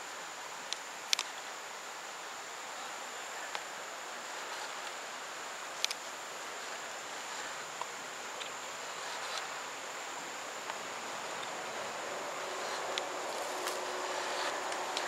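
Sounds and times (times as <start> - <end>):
high-pitched insect drone: 0.0 - 15.0
steady hiss: 0.0 - 15.0.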